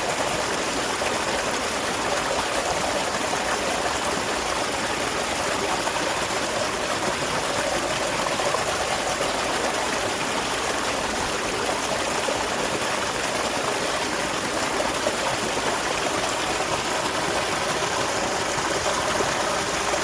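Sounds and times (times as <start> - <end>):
small waterfall splashing: 0.0 - 20.0.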